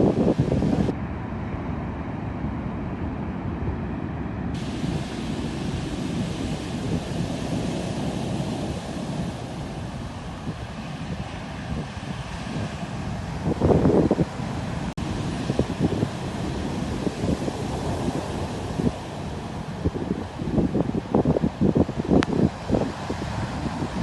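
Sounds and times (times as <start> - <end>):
wind buffeting microphone: 0.0 - 1.0, 2.8 - 24.0
rough sea waves breaking: 0.0 - 24.0.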